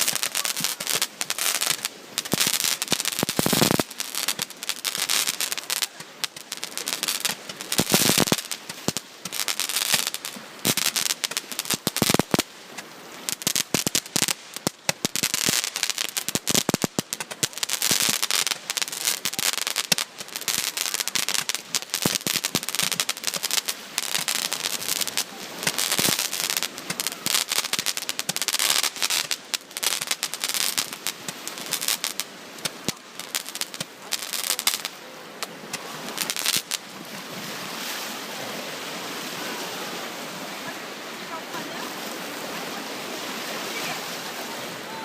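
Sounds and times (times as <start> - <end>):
fireworks crackling and popping: 0.0 - 40.1.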